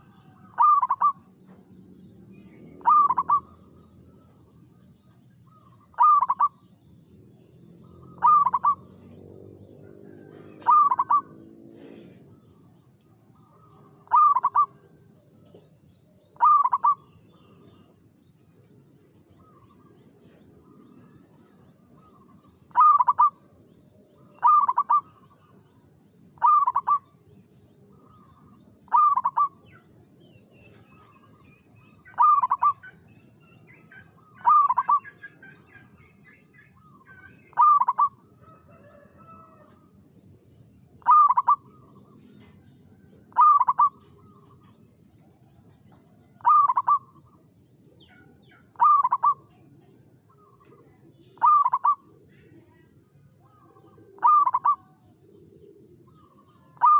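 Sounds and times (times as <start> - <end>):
dove cooing: 0.0 - 1.4, 2.6 - 4.8, 5.5 - 6.7, 7.8 - 9.2, 9.8 - 12.6, 13.3 - 17.8, 19.1 - 39.8, 41.0 - 56.9.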